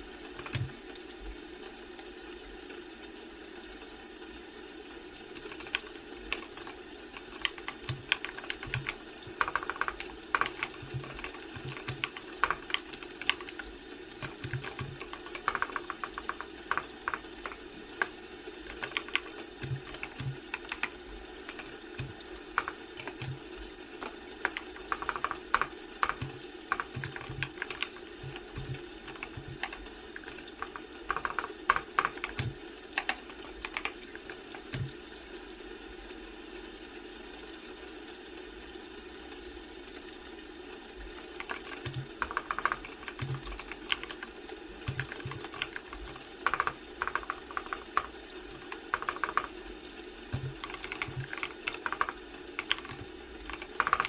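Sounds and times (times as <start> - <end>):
low background hum: 0.0 - 54.0
computer keyboard typing: 0.3 - 0.8, 5.3 - 35.0, 39.9 - 54.0.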